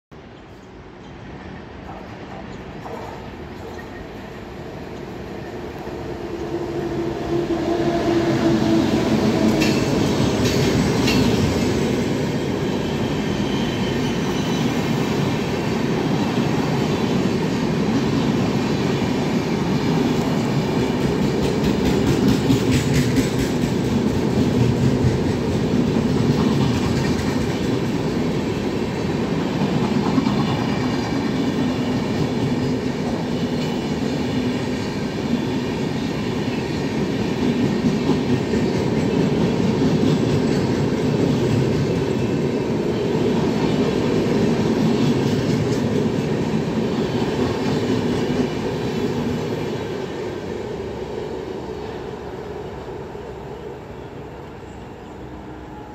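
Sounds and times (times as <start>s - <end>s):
train wheels rumbling on rail: 0.2s - 55.9s.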